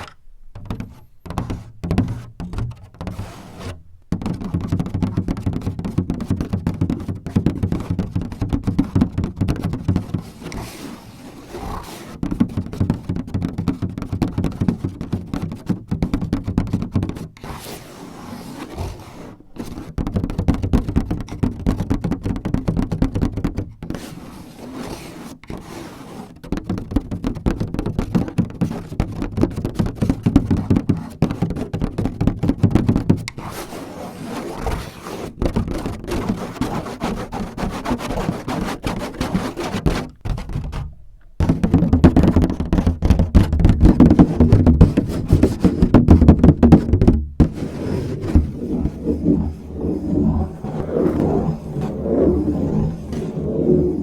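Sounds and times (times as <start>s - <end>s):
fingertips tapping and scratching: 0.0s - 17.5s, 18.6s - 25.6s, 26.4s - 54.0s.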